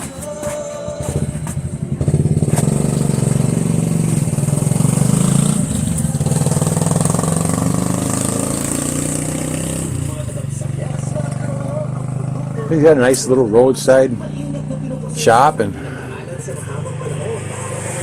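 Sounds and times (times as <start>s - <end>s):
small motorcycle engine running: 1.0s - 18.0s.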